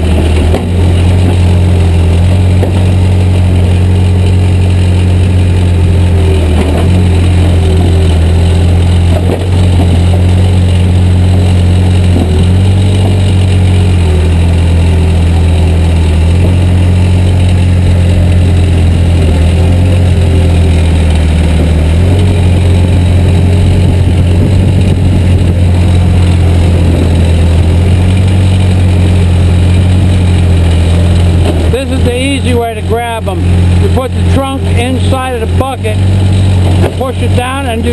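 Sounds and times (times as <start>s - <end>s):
backhoe diesel engine running: 0.0s - 37.9s.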